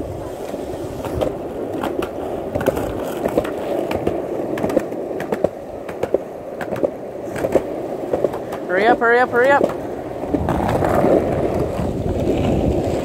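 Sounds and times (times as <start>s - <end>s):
skateboard wheels clacking over joints: 0.0s - 13.0s
skateboard wheels rolling on concrete: 0.0s - 13.0s.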